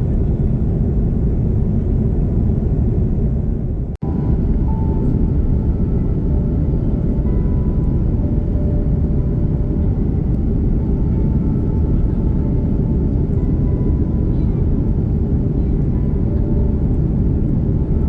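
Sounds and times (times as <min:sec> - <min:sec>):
aircraft cabin engine rumble: 0:00.0 - 0:18.0
faint steady whines: 0:03.4 - 0:18.0.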